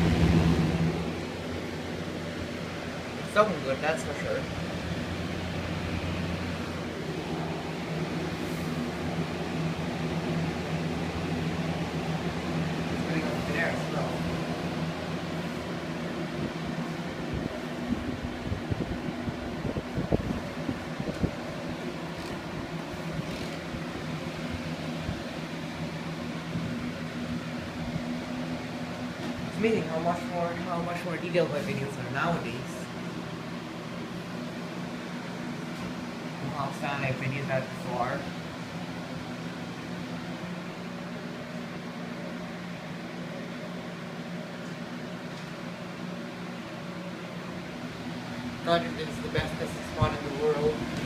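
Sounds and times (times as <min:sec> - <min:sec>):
box fan air rushing: 0:00.0 - 0:51.0
low motor hum: 0:00.0 - 0:51.0.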